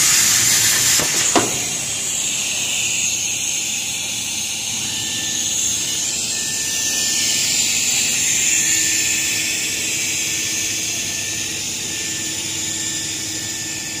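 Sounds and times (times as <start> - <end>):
plasma cutter hissing: 0.0 - 14.0.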